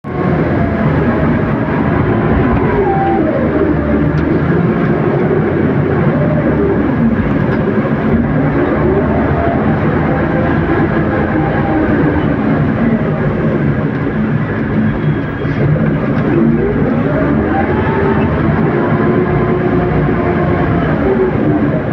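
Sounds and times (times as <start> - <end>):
loader engine revving: 0.0 - 21.9.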